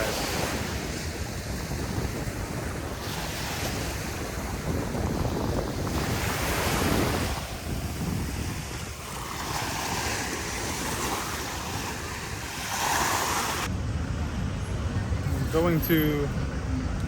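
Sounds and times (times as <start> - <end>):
waves washing onto beach: 0.0 - 13.7
wind buffeting microphone: 0.0 - 15.7.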